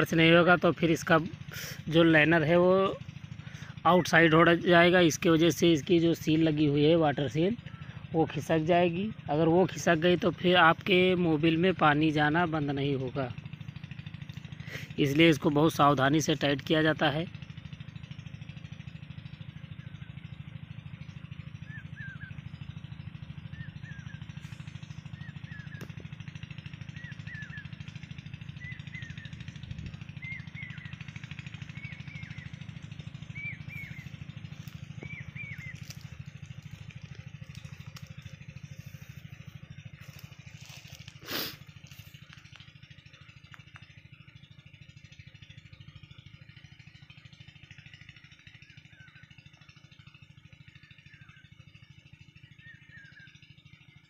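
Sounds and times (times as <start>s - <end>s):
low motor hum: 0.0s - 54.0s.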